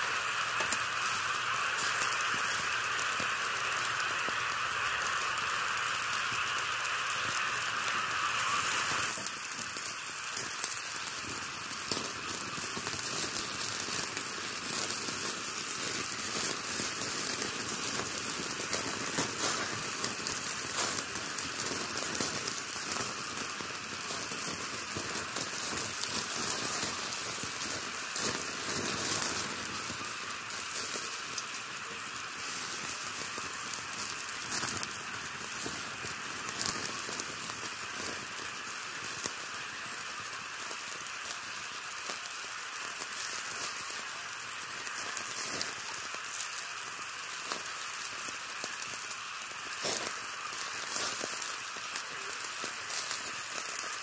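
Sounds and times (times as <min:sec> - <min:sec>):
crackling hiss: 0:00.0 - 0:54.0.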